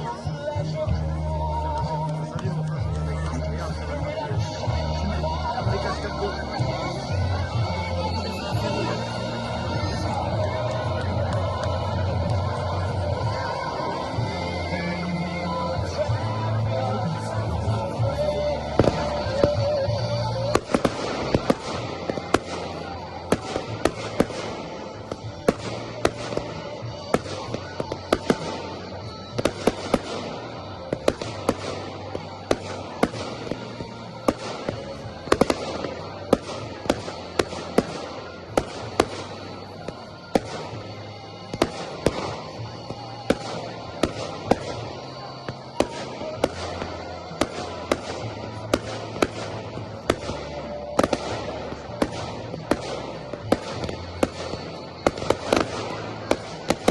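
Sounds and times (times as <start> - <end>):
fireworks bursts: 0.0 - 56.9
music playing: 0.0 - 56.9.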